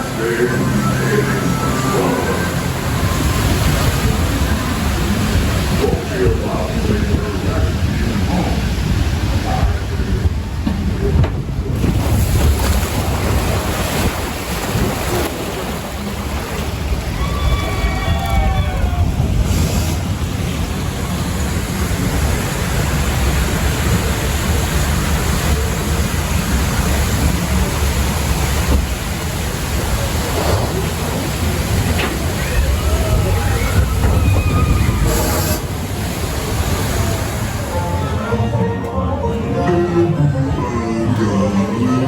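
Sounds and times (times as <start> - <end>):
rushing splashing water: 0.0 - 38.4
wind buffeting microphone: 2.5 - 37.7.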